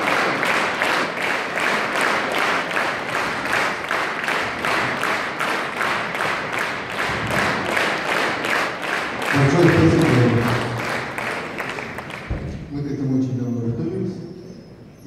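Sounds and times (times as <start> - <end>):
audience rhythmic clapping: 0.0 - 13.2.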